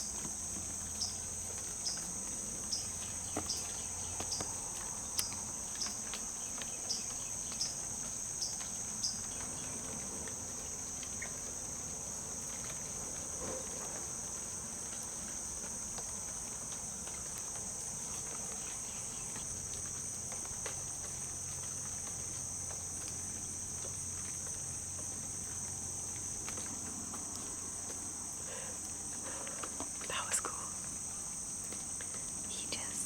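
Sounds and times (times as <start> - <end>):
faint ticks: 0.0 - 11.6, 12.4 - 33.0
insects chorus: 0.0 - 33.0.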